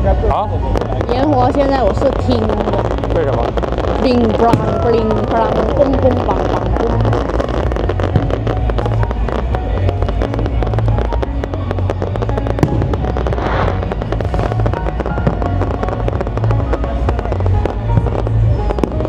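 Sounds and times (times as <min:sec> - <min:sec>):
deep fireworks booms: 0:00.0 - 0:19.0
fireworks pops and crackles: 0:00.0 - 0:19.0.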